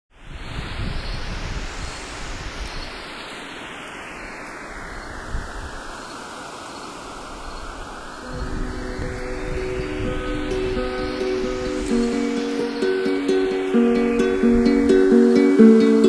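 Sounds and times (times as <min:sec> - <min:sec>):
filtered noise whoosh: 0:00.2 - 0:16.0.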